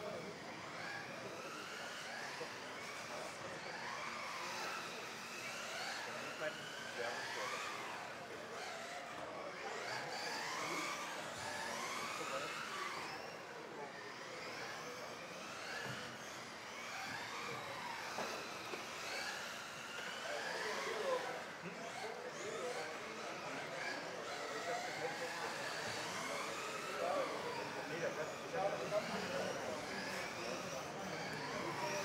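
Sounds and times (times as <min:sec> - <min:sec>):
rc car motors whining: 0:00.0 - 0:32.0.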